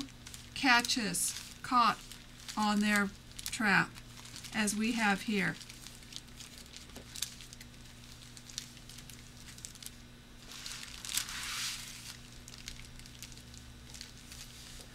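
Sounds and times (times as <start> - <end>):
faint low hum: 0.0 - 14.9
paper cards in plastic rustling: 0.0 - 14.9.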